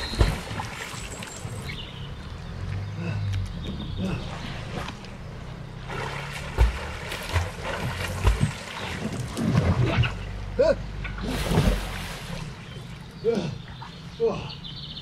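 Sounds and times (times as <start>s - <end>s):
water splashing and sloshing: 0.0s - 14.5s.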